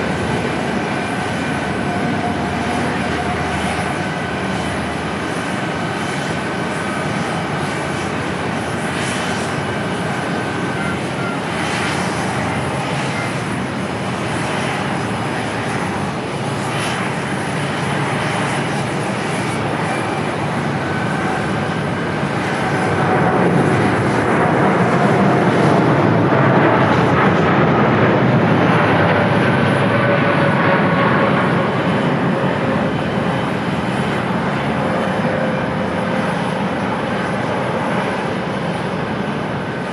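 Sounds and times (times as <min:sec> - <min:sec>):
airliner engines rush and whine: 0:00.0 - 0:39.9.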